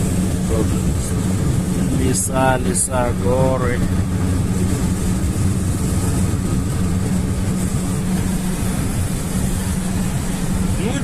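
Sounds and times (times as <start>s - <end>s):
road noise: 0.0s - 11.0s
van engine drone: 0.0s - 11.0s.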